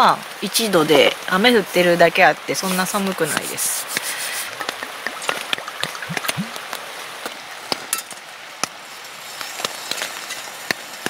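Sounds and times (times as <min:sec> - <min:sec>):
rain pattering on tent: 0:00.0 - 0:11.0.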